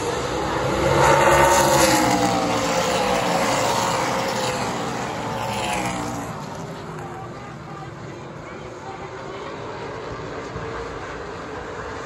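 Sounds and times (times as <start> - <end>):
race cars passing: 0.0 - 12.0.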